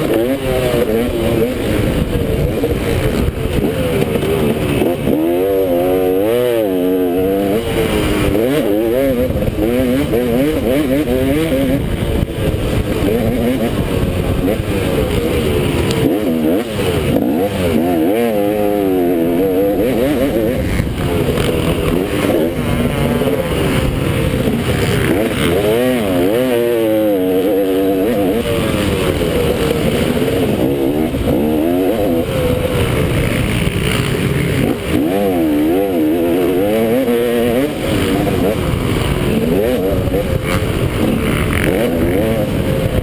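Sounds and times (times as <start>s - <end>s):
motorbike engine revving: 0.0s - 43.0s
steady rushing noise: 0.0s - 43.0s.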